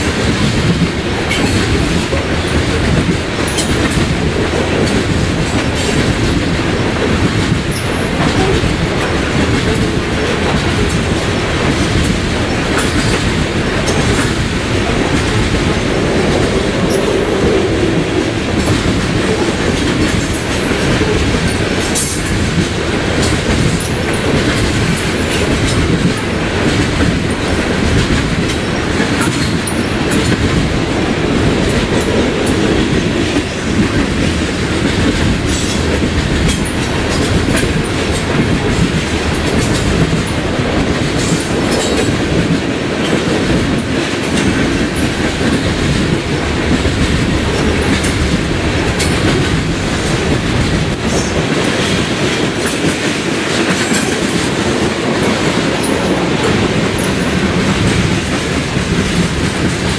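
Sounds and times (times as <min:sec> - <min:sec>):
clickety-clack of rail joints: 0:00.0 - 0:59.9
train wheels rumbling on track: 0:00.0 - 0:59.9.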